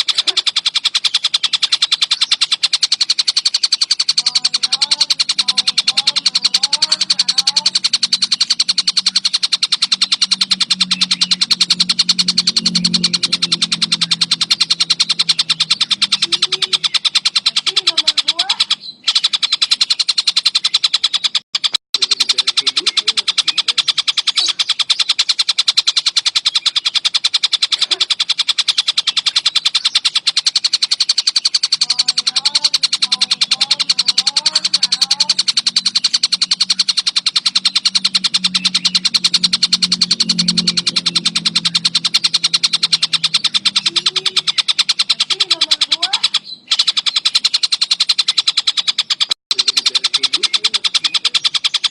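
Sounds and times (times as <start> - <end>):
kingfisher rattling trill: 0.0 - 51.9.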